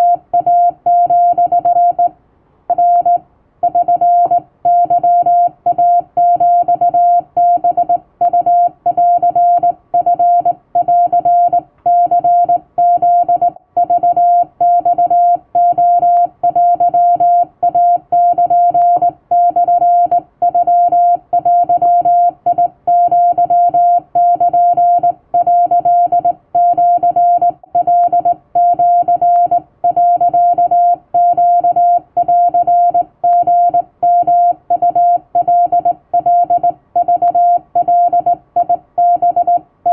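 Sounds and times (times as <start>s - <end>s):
morse code tone: 0.0s - 2.1s, 2.7s - 39.9s.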